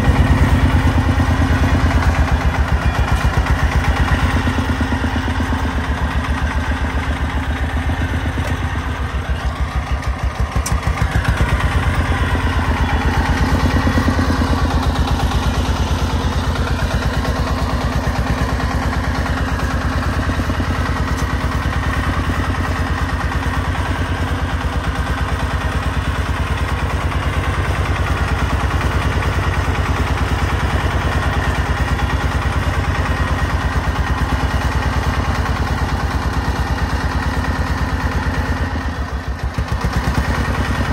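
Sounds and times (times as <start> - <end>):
diesel truck engine chugging: 0.0 - 40.9.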